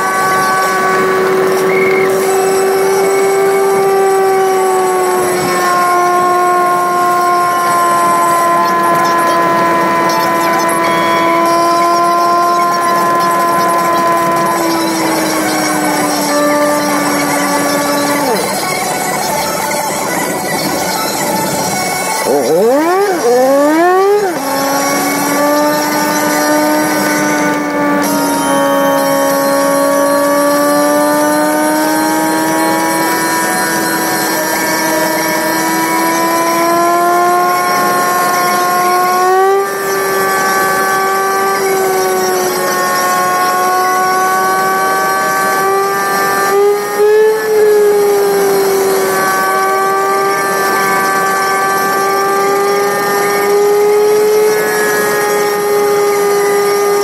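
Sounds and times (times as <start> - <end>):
sped-up car engine whine: 0.0 - 57.0.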